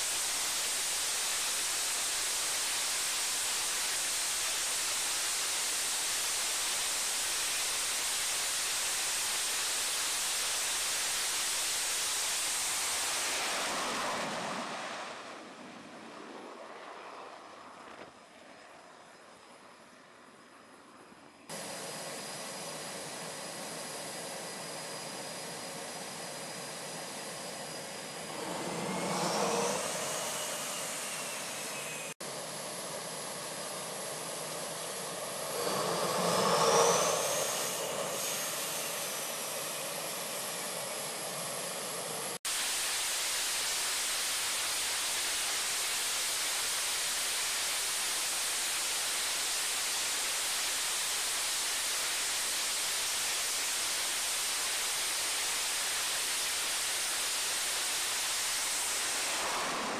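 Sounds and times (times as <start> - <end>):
steady rushing noise: 0.0 - 18.2, 21.5 - 59.9
jet engine turbine whine: 0.0 - 59.9.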